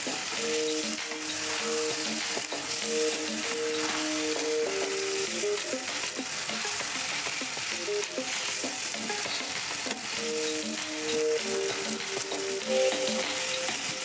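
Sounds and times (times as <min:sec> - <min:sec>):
chicken sizzling in a wok: 0:00.0 - 0:14.0.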